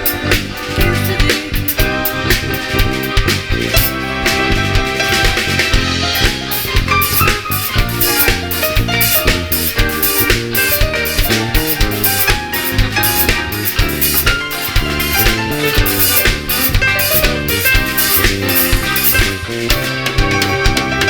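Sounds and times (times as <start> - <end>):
band playing instrumental: 0.0 - 21.0
drum kit beat: 0.0 - 21.0.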